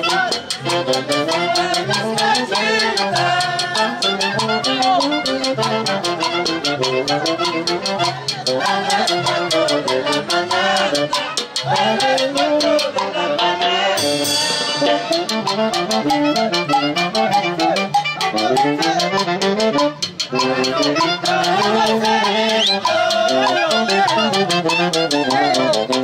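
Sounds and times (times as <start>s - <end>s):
brass band music: 0.0s - 26.0s
quick percussion beat: 0.0s - 26.0s.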